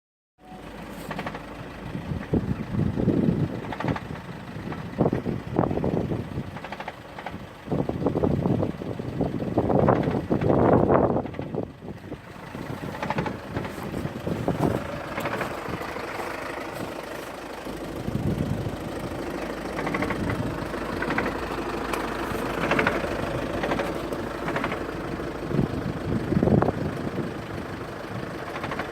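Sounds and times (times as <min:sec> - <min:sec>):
diesel engine idling: 0:00.4 - 0:28.9
engine knocking: 0:00.6 - 0:28.9.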